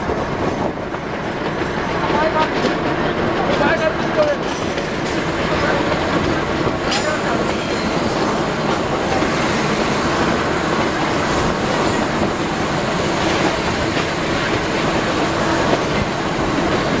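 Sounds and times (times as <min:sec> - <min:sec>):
diesel locomotive running: 0:00.0 - 0:17.0.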